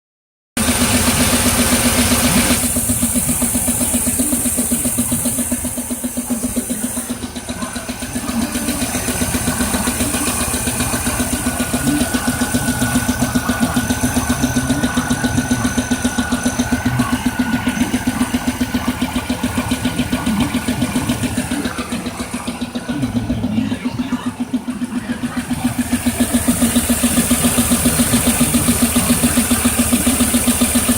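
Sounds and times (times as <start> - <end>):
car engine idling with knock: 0.6 - 30.9.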